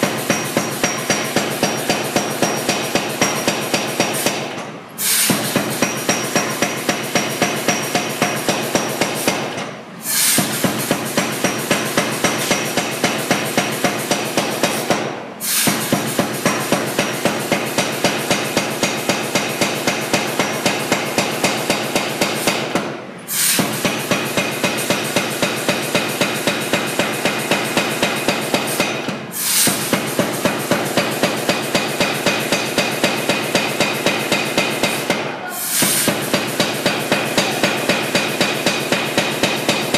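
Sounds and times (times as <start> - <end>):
power hammer blows on metal: 0.0 - 39.9.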